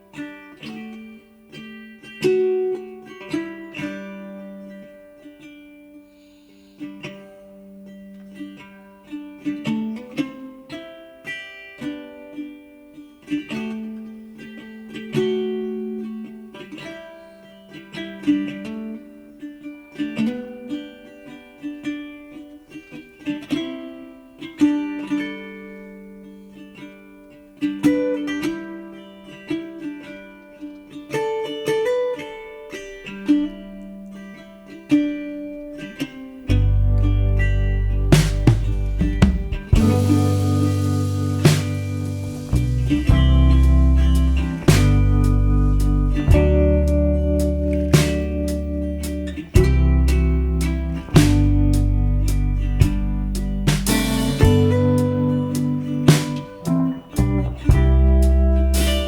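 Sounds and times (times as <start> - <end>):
gentle plucked-string tune: 0.0 - 59.0.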